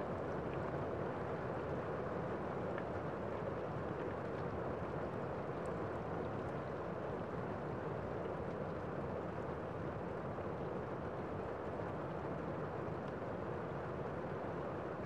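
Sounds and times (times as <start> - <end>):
rain on a window: 0.0 - 15.0.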